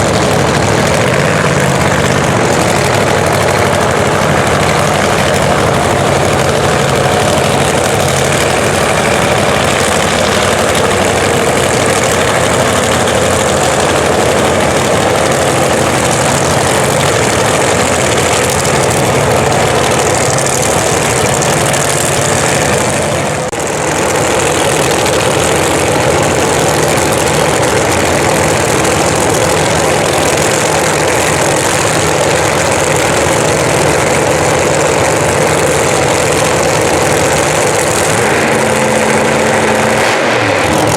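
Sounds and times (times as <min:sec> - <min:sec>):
drag racing engine running: 0:00.0 - 0:40.9.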